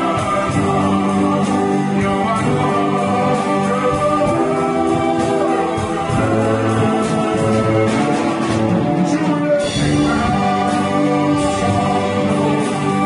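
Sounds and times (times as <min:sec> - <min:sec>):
drum kit with cymbals: 0:00.0 - 0:13.0.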